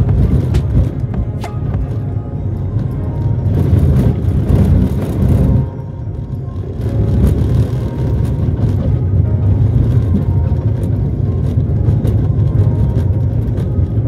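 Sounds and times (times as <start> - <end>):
car rumbling on dirt road: 0.0 - 14.0.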